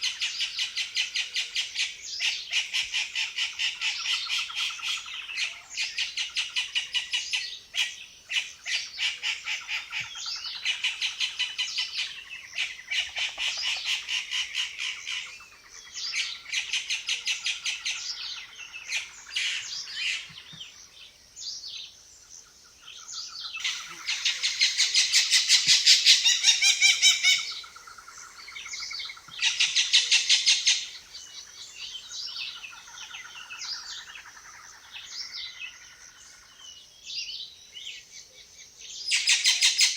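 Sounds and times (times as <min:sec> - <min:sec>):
birds chattering: 0:00.0 - 0:21.9, 0:22.8 - 0:36.6.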